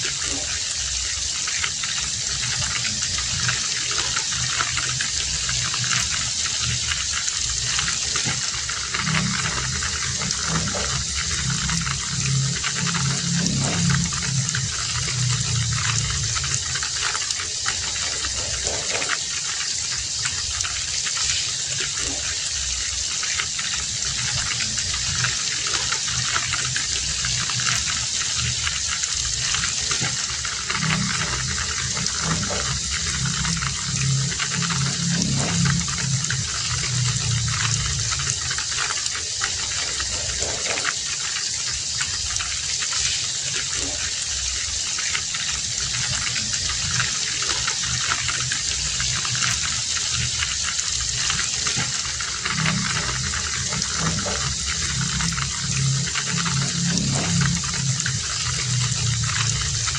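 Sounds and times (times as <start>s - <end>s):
heavy rain falling: 0.0s - 59.9s
low rumble: 2.0s - 20.8s, 23.8s - 40.9s, 45.8s - 59.9s.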